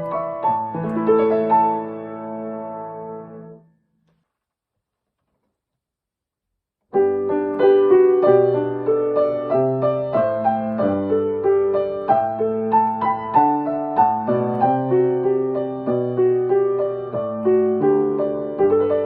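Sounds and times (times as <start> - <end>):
piano keyboard melody: 0.0 - 3.7, 6.9 - 19.0.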